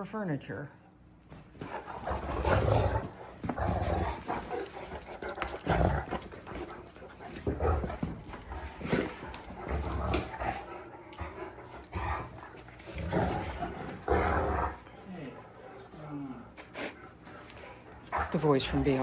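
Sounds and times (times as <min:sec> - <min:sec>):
dogs play-fighting: 0:01.0 - 0:19.0.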